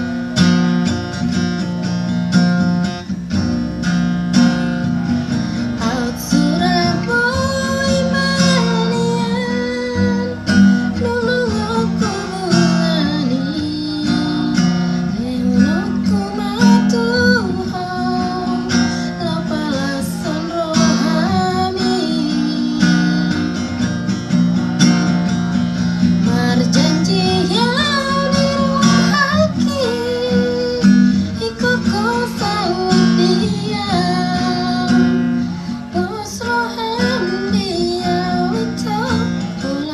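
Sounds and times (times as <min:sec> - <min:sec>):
acoustic guitar strumming: 0:00.0 - 0:39.9
woman singing: 0:05.6 - 0:24.1, 0:26.0 - 0:39.9.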